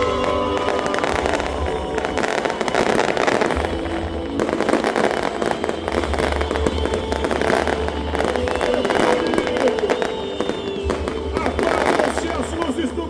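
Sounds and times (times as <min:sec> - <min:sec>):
faint music: 0:00.0 - 0:13.0
firecrackers popping: 0:00.0 - 0:13.0.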